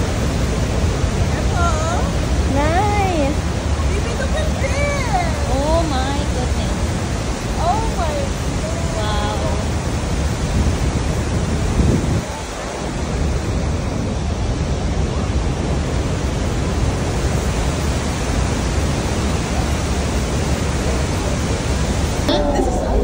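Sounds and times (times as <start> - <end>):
loud waterfall roar: 0.0 - 23.0.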